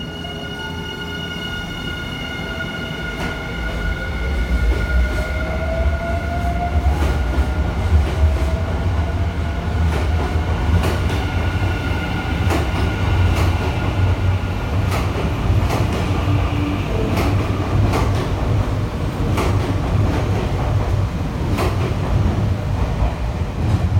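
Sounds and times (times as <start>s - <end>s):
electric train rumbling: 0.0s - 23.9s.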